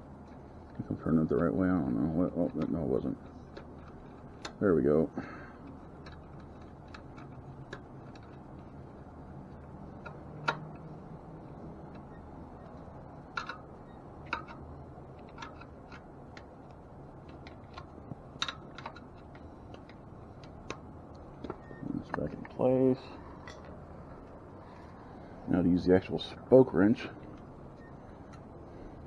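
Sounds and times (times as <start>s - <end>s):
light clicks and taps on bicycle wheel: 0.2s - 25.4s, 27.0s - 29.0s.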